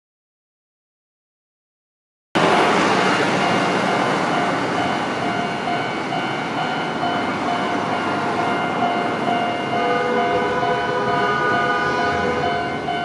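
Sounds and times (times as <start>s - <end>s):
street traffic: 2.4s - 13.0s.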